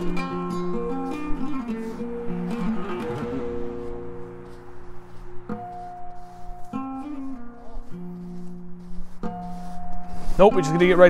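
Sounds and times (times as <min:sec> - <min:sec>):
plucked string and keyboard music: 0:00.0 - 0:10.7.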